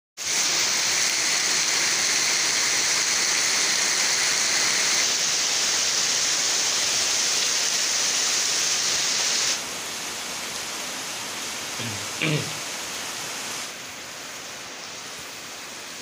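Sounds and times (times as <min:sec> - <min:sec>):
heavy rain on pavement and puddles: 0:00.2 - 0:16.0.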